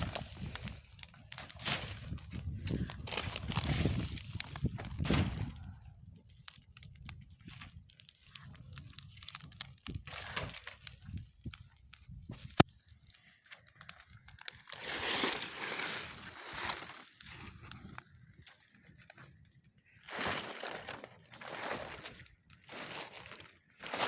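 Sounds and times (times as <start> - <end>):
paper and plastic crinkling: 0.0 - 24.0.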